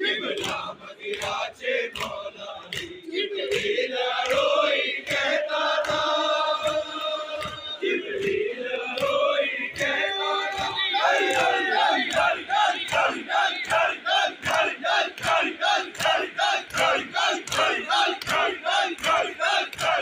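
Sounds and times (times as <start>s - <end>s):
men chanting in unison: 0.0s - 20.0s
hands slapping chests: 0.3s - 20.0s.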